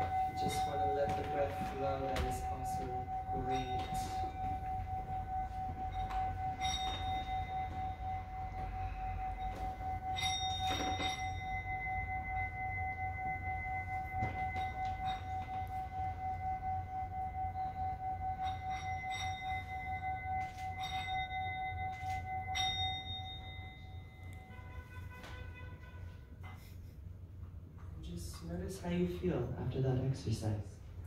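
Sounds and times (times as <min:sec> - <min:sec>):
singing bowl ringing: 0:00.0 - 0:26.8.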